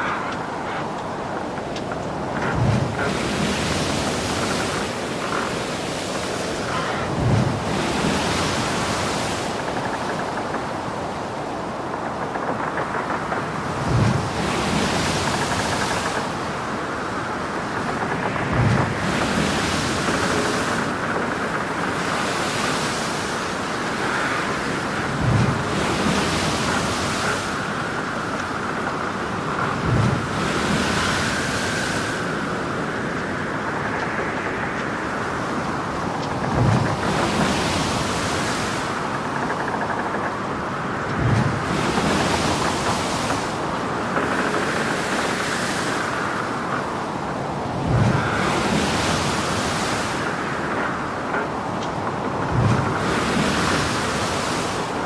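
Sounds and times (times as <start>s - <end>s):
water rushing against ship: 0.0s - 55.0s
waves breaking against hull: 0.0s - 55.0s
wind on microphone: 0.0s - 55.0s.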